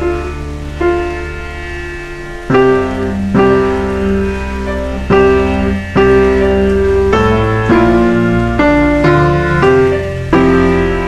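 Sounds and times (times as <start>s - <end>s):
low bass: 0.0s - 11.0s
slow piano chords: 0.0s - 11.0s.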